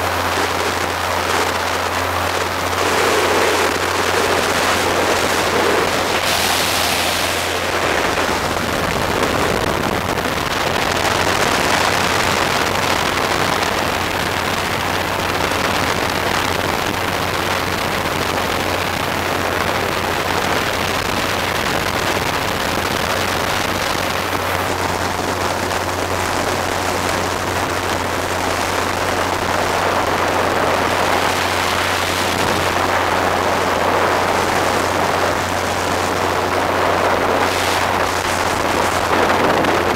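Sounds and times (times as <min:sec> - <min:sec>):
engine and propeller drone: 0:00.0 - 0:39.9
wind rushing over microphone: 0:00.0 - 0:39.9.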